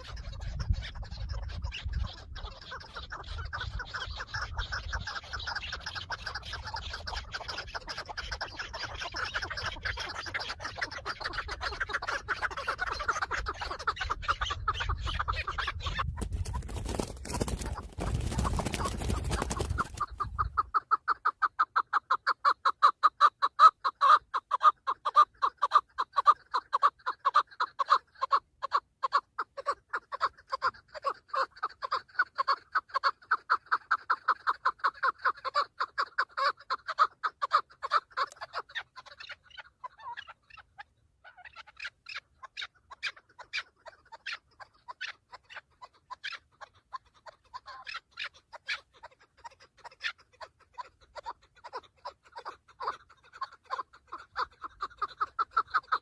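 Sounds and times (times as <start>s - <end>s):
partridge clucking calls: 0.0s - 56.0s.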